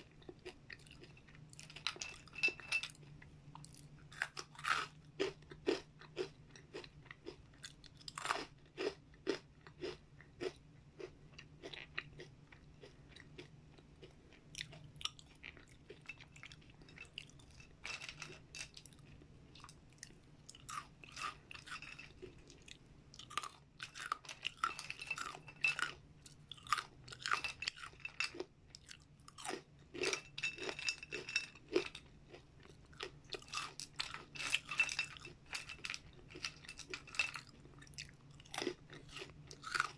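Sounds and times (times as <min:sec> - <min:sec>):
person chewing crunchy chips: 0:00.0 - 0:39.9.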